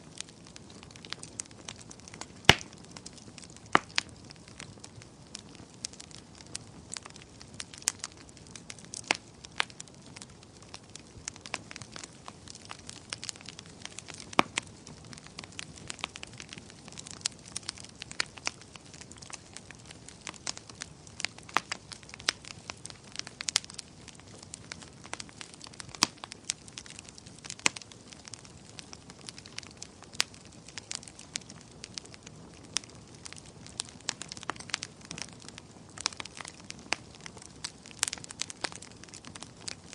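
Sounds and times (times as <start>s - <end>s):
burning wood crackling: 0.0s - 39.9s
flames rushing: 0.2s - 39.9s.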